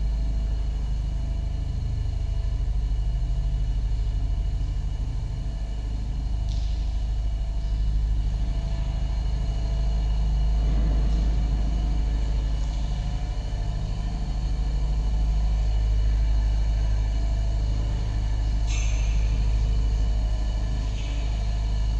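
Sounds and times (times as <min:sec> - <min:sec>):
deep rumble: 0:00.0 - 0:21.9
mechanical hum: 0:00.0 - 0:21.9.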